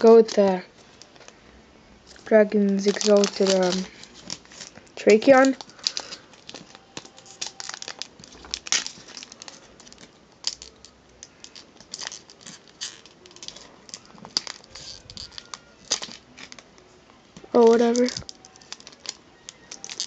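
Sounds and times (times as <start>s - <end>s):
foil wrapper crinkling and tearing: 2.1s - 16.8s, 17.6s - 20.0s.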